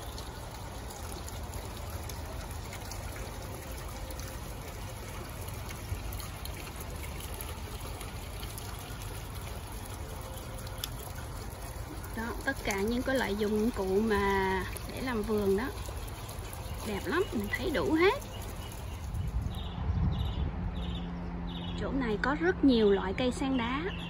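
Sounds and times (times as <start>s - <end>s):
fountain water trickling and splashing: 0.0s - 20.2s.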